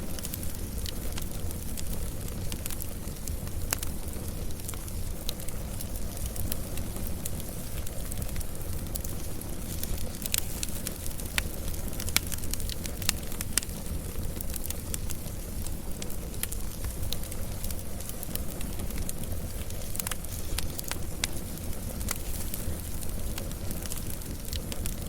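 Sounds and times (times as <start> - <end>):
fire crackles and pops: 0.0 - 25.0
wood fire rumbling: 0.0 - 25.0.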